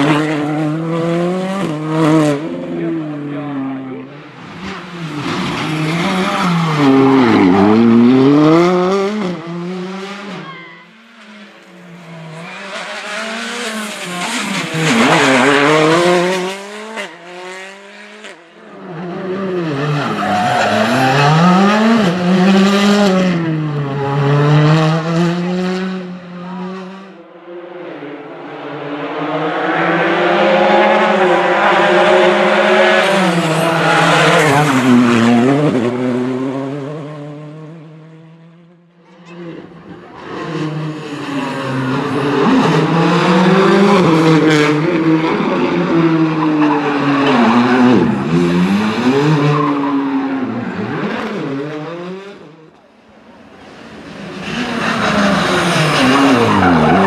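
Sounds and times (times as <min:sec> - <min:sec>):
rally car engine revving: 0:00.0 - 0:52.8, 0:53.5 - 0:57.0.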